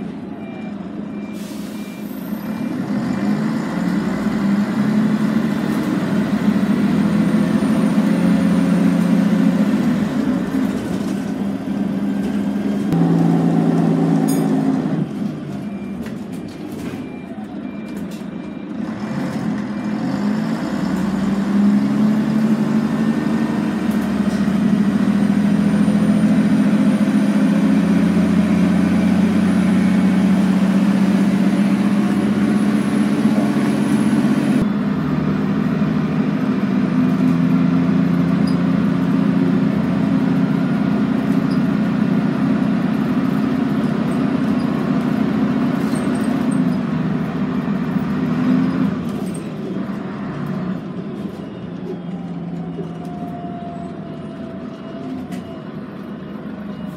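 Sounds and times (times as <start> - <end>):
bus diesel engine drone: 0.0 - 56.9.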